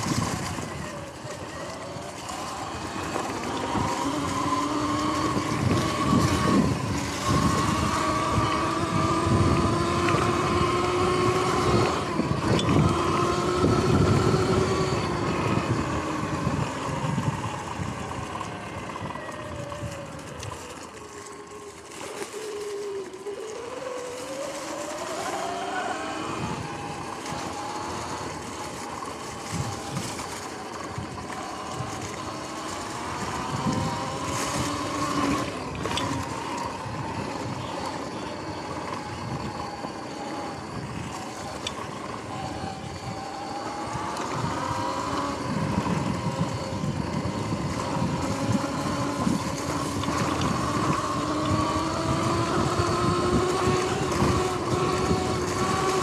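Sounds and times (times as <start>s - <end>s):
electric motor whine: 0.0s - 56.0s
tyres rumbling on grass and leaves: 0.0s - 56.0s.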